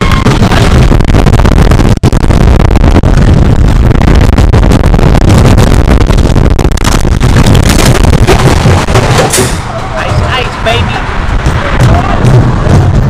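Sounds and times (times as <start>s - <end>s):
roller coaster rattling and rumbling: 0.0s - 13.0s
wind on microphone: 0.0s - 13.0s.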